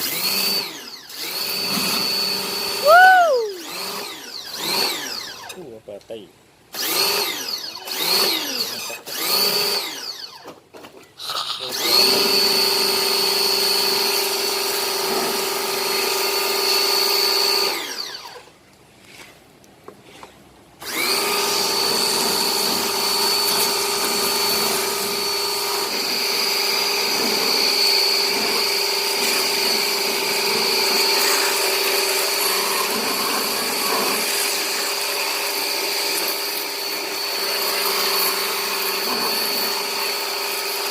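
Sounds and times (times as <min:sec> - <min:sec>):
small electric motor whining: 0:00.0 - 0:05.6, 0:06.7 - 0:10.6, 0:11.6 - 0:18.5, 0:20.8 - 0:40.9.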